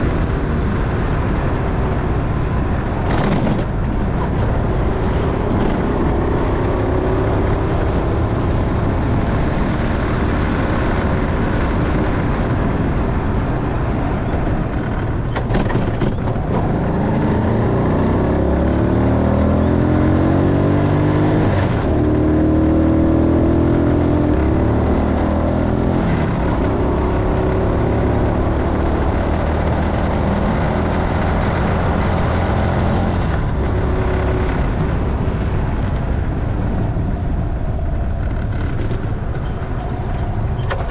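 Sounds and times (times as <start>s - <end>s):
motorcycle engine accelerating: 0.0s - 40.9s
wind and road noise: 0.0s - 40.9s.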